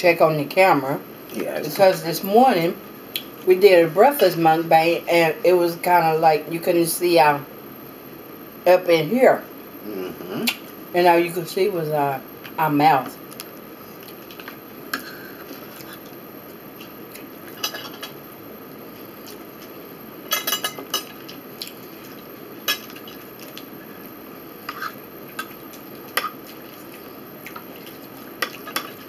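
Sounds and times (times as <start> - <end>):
room hiss: 0.0 - 29.0.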